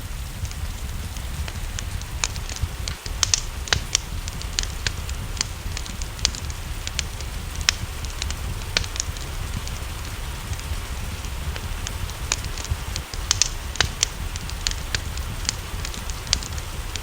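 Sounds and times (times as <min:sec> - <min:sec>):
low rumble: 0:00.0 - 0:17.0
rain hiss: 0:00.0 - 0:17.0
wood fire crackling: 0:00.0 - 0:17.0.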